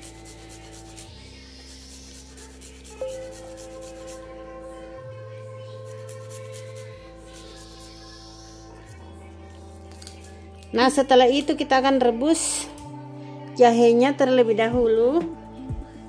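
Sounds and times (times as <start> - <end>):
background music with soft chords: 0.0 - 16.0.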